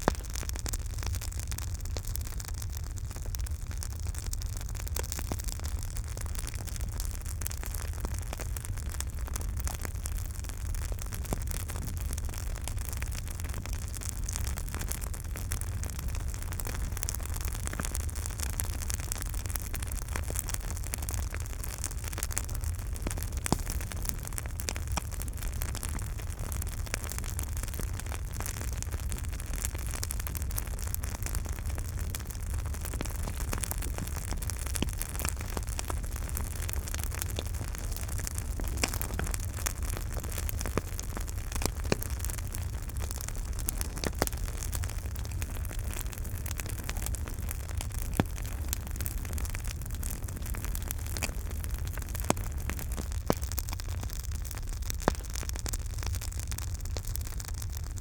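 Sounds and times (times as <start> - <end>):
campfire flames hissing: 0.0 - 58.0
wood crackling and popping: 0.0 - 58.0.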